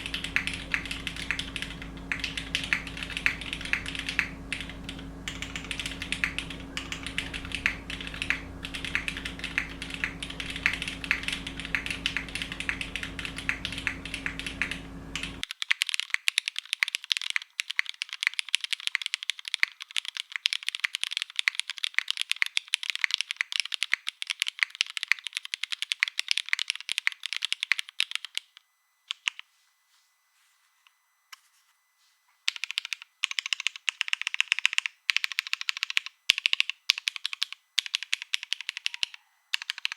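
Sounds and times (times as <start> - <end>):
mechanical keyboard typing: 0.0 - 28.5, 32.5 - 39.9.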